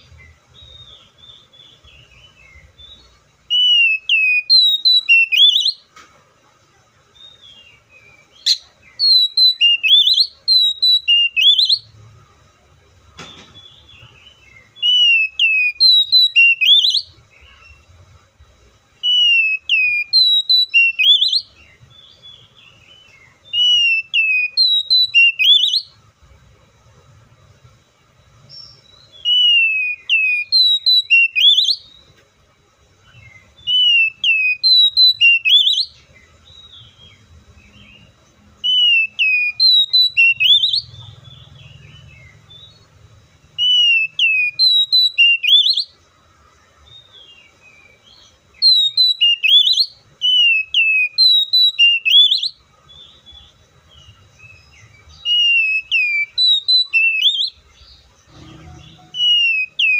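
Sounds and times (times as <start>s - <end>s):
bird singing whistled notes: 0.0s - 5.9s, 7.0s - 12.0s, 13.2s - 26.1s, 28.2s - 32.2s, 33.0s - 46.1s, 46.7s - 59.9s.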